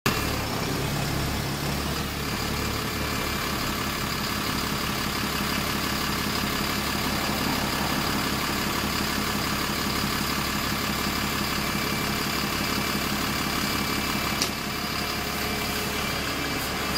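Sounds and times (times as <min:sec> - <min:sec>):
bus diesel engine drone: 0:00.1 - 0:16.9
bus passing: 0:00.1 - 0:16.9.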